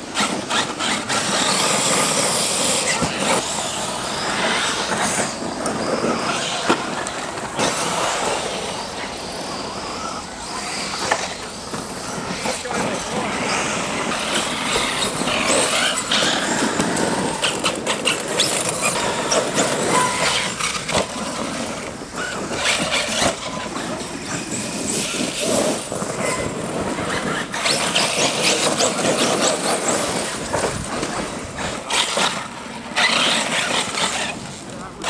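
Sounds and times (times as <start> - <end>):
toy truck motors: 0.2 - 35.0.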